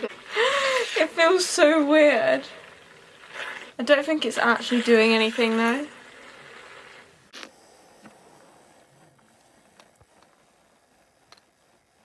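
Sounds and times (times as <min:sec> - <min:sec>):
quiet hiss: 0:00.0 - 0:12.0.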